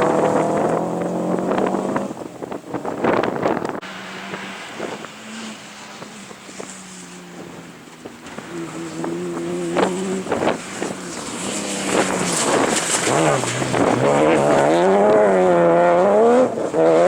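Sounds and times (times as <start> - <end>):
rally car engine running: 0.0 - 17.0.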